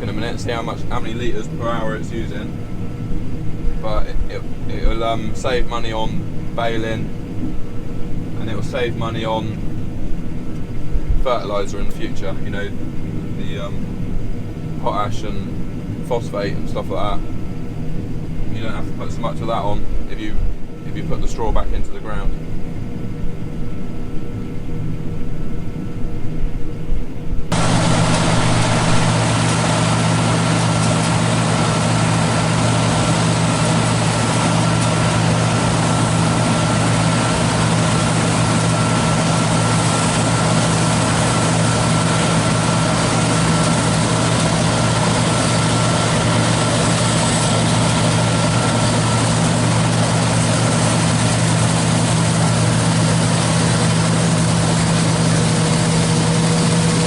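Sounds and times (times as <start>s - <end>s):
combine harvester engine drone: 0.0s - 57.0s
thin high whine: 0.0s - 57.0s.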